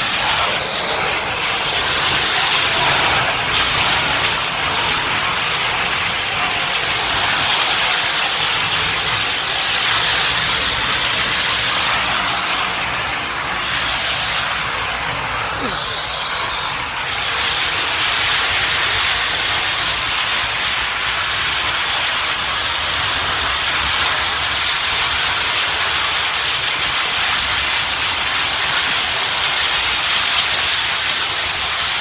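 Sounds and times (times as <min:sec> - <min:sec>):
burning truck rushing hiss: 0:00.0 - 0:32.0.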